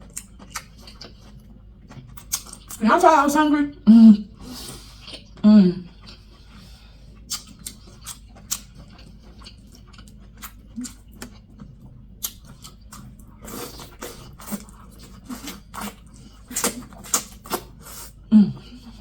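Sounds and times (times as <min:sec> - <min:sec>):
close chewing and lip-smacking: 0:00.0 - 0:02.8, 0:04.2 - 0:19.0.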